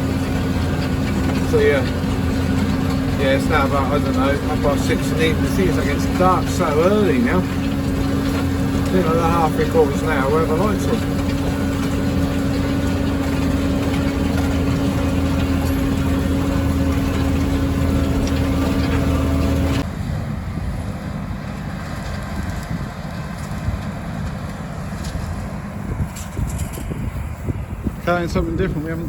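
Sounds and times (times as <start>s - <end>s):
machine rumble: 0.0s - 29.0s
tractor engine running: 0.0s - 29.0s
wind noise: 0.0s - 29.0s.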